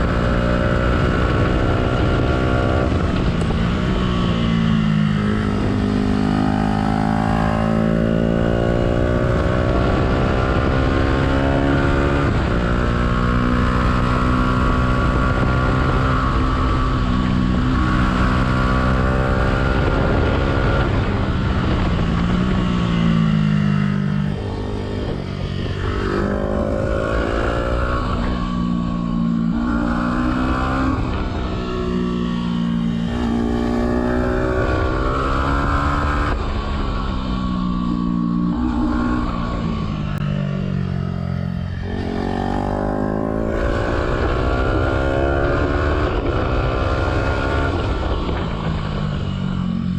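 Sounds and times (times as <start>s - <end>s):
motorcycle engine revving and shifting: 0.0s - 49.9s.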